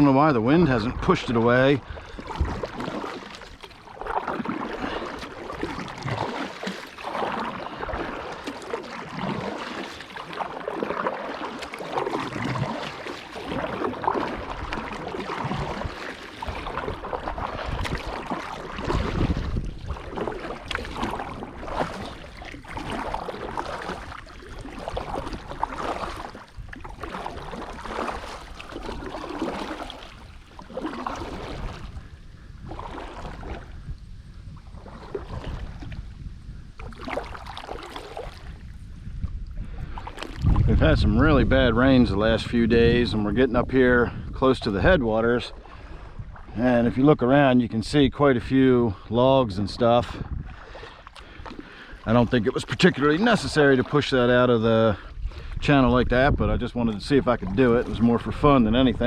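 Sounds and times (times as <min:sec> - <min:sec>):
kayak paddle in water: 0:00.0 - 0:59.0
water splashing around hull: 0:00.0 - 0:59.0.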